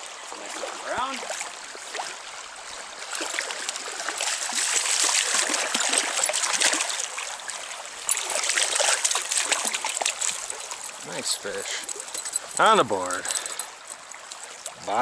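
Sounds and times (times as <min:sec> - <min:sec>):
stream water running: 0:00.0 - 0:15.0
water splashing and sloshing: 0:00.0 - 0:15.0.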